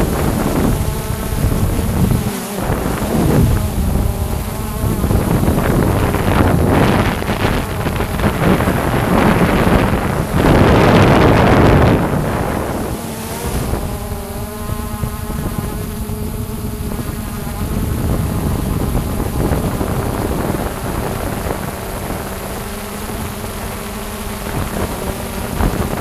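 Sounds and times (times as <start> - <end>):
drone propellers buzzing: 0.0 - 26.0
wind noise on microphone: 0.0 - 26.0.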